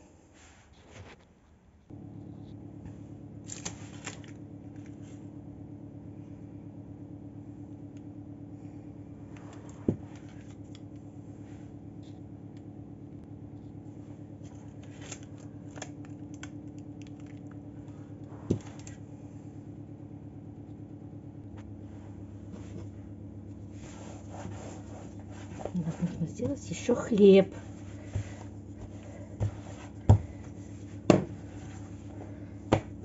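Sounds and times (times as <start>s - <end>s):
low hum: 1.8s - 33.0s.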